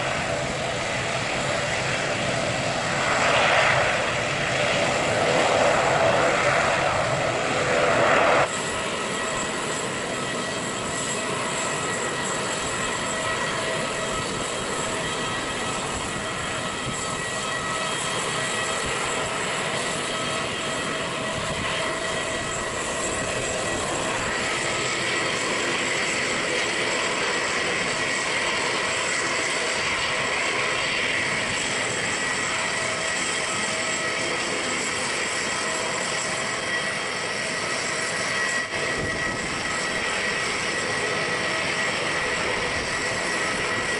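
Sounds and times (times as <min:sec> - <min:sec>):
turboprop engines whining: 0:00.0 - 0:43.9.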